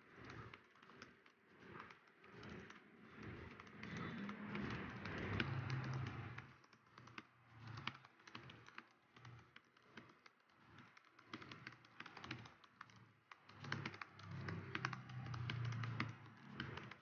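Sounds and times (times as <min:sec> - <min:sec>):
laptop keyboard typing: 0:00.0 - 0:17.0.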